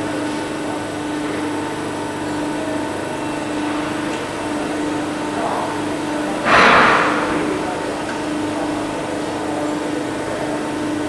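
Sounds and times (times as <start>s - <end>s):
machine motor humming: 0.9s - 11.0s.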